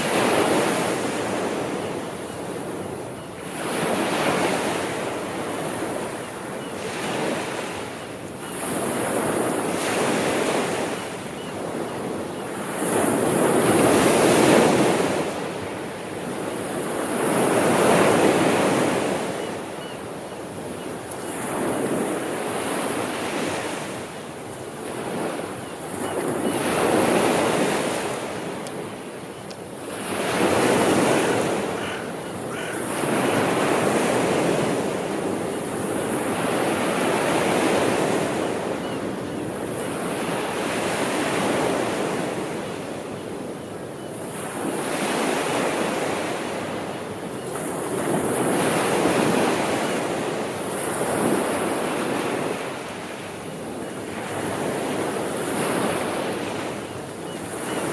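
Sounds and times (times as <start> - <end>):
sea waves breaking on shore: 0.0 - 57.9.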